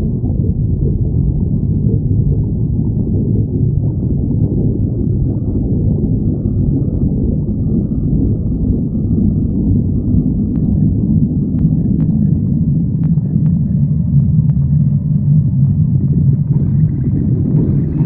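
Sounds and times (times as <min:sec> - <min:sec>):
stomach growling: 0:00.0 - 0:18.0.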